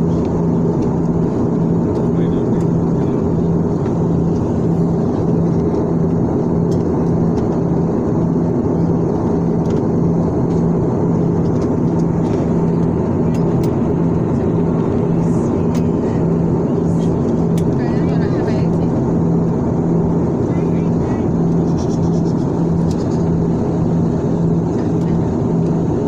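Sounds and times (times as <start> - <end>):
jet cabin engine roar: 0.0 - 26.0
low hum: 0.0 - 26.0.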